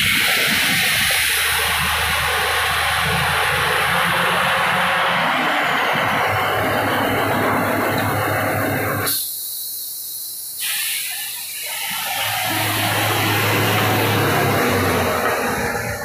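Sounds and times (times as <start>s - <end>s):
loud hiss of air: 0.0s - 5.0s, 8.1s - 16.0s
diesel engine droning: 0.0s - 9.2s, 11.3s - 16.0s.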